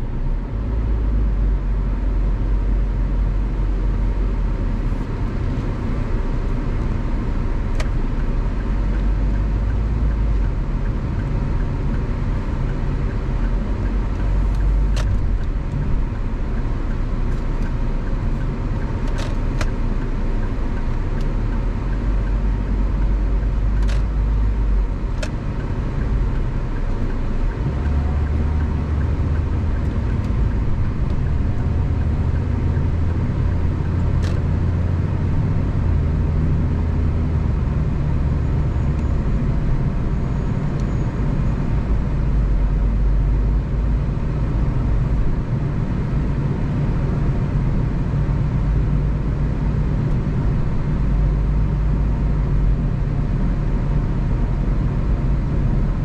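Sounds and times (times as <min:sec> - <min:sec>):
engine and tyres rumbling: 0:00.0 - 0:56.0.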